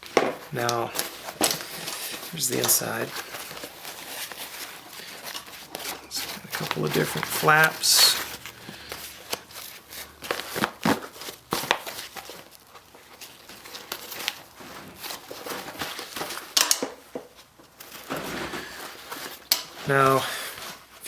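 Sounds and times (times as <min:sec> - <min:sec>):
fabric bag rustling: 0:00.0 - 0:21.0.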